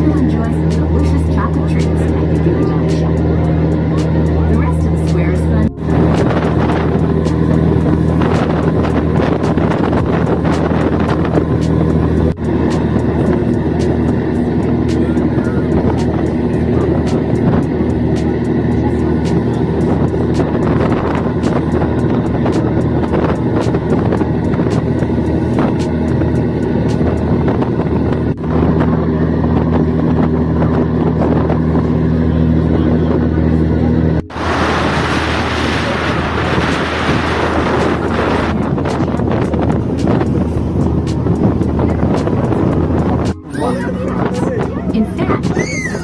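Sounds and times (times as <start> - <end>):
boat engine drone: 0.0 - 46.0
wind buffeting microphone: 0.0 - 46.0.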